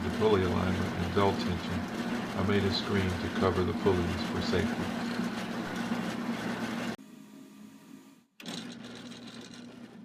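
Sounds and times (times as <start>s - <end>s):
band saw motor humming: 0.0s - 10.0s.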